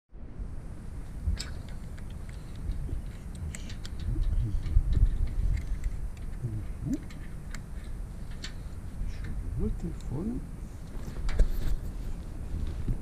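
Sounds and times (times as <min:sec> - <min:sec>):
steady low rumble: 0:00.2 - 0:13.0.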